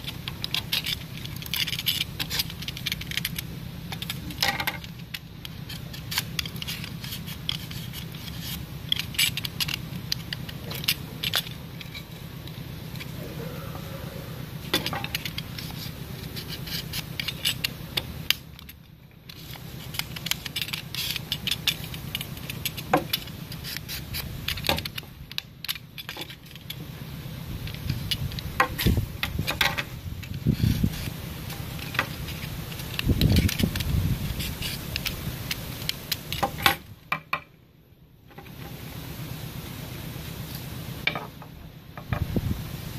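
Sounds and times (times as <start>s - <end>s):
knife scraping bamboo: 0.0s - 37.3s
steady low hum: 0.0s - 42.9s.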